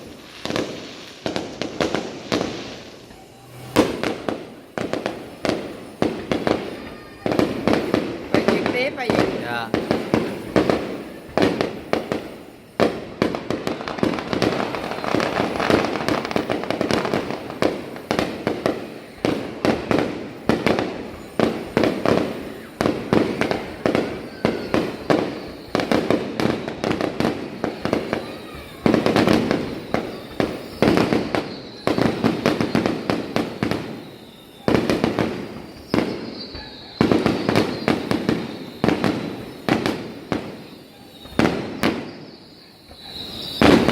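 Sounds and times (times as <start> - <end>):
fireworks crackling: 0.0 - 43.9
fireworks shells bursting: 0.0 - 43.9.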